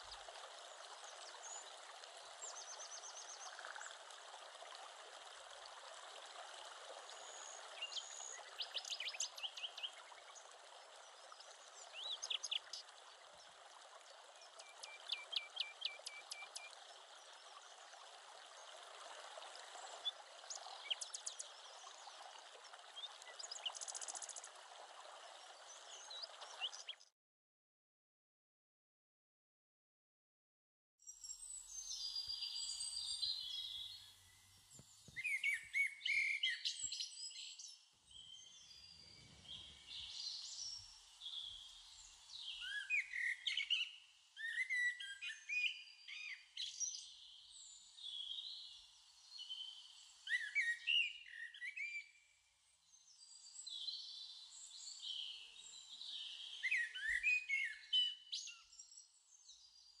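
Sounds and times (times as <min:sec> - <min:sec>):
small birds chirping and twittering: 0:00.0 - 0:04.7, 0:06.7 - 0:27.1, 0:31.0 - 1:00.0.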